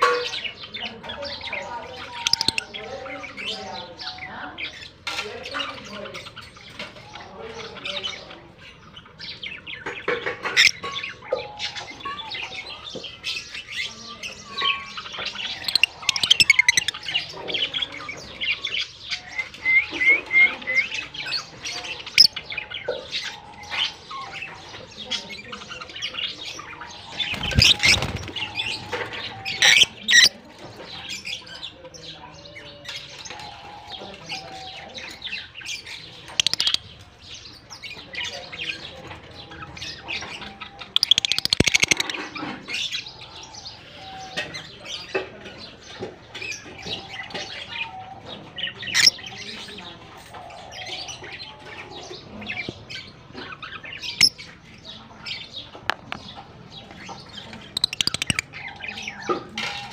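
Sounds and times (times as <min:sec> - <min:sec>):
lovebirds chirping and squawking: 0:00.0 - 0:59.9.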